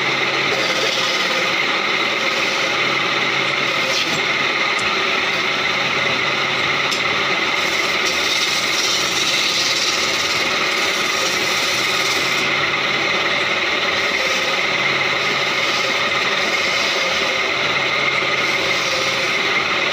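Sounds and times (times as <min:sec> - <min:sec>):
chisel rasping on spinning wood: 0:00.0 - 0:05.5, 0:07.5 - 0:19.9
wood lathe humming: 0:00.0 - 0:19.9.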